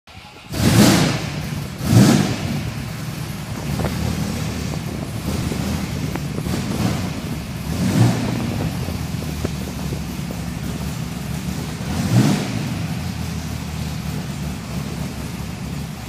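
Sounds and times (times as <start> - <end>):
vee-eight engine revving and idling: 0.4 - 16.0.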